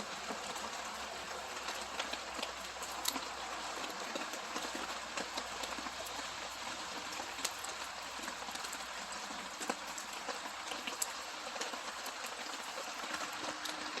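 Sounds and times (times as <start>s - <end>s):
campfire crackling: 0.0s - 14.0s
rain falling: 0.0s - 14.0s.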